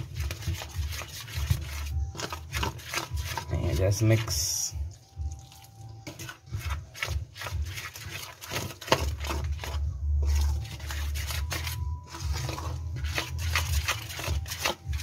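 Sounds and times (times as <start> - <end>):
spoon stirring batter in metal bowl: 0.0 - 15.0.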